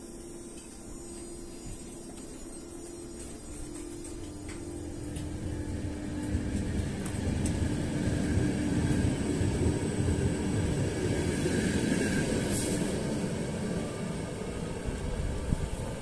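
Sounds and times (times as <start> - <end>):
train wheels rumbling on rails: 1.6 - 16.0.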